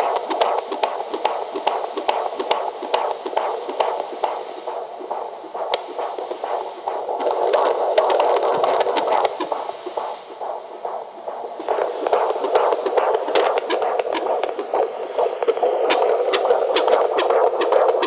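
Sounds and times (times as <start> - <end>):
steady hiss: 0.0 - 18.0
whooshing heartbeat pulse: 0.0 - 18.0.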